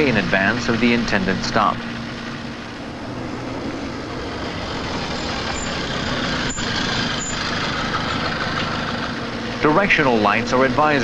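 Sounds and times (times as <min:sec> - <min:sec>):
road noise: 0:00.0 - 0:11.0
two-stroke moped engine running: 0:00.0 - 0:11.0.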